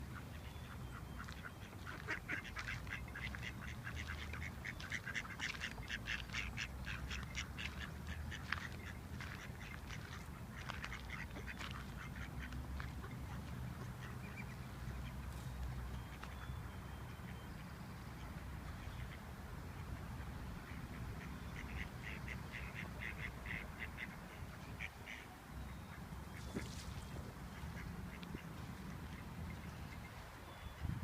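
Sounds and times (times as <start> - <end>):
ducks quacking: 0.1 - 17.5, 18.2 - 31.0.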